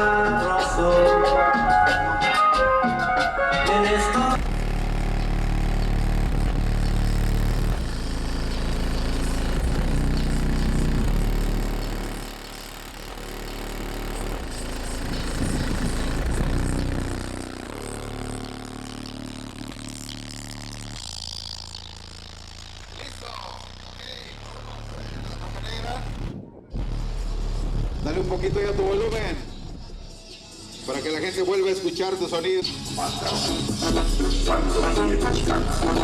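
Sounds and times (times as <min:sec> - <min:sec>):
music with heavy subwoofer bass: 0:00.0 - 0:36.0.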